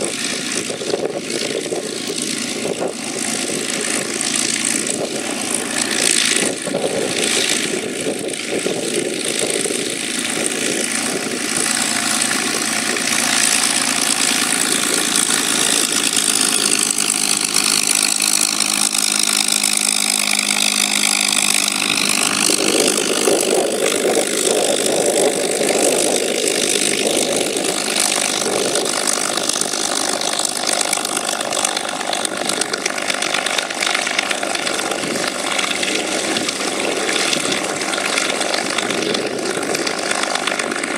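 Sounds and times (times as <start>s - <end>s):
propeller aircraft engine taxiing: 0.0s - 40.9s.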